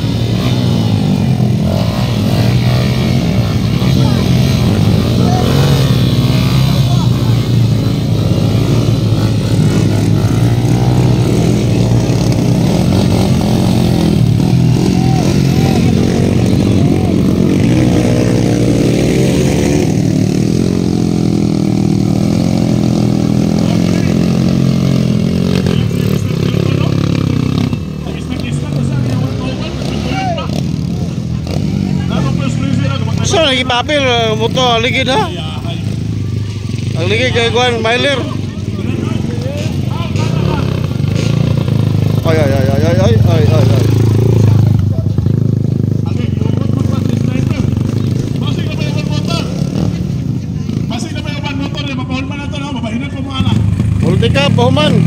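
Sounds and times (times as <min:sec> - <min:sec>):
motorcycle engine under throttle: 0:00.0 - 0:55.0.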